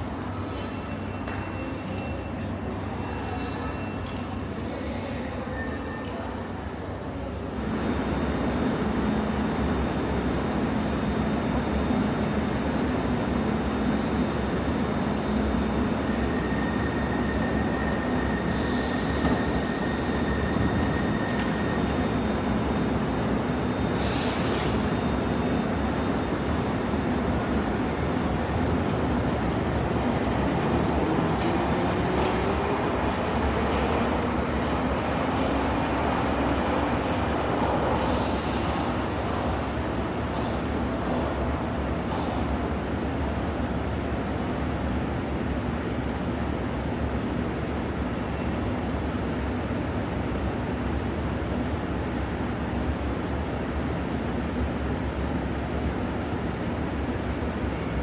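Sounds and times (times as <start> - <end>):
underground train rumbling: 0.0 - 58.0.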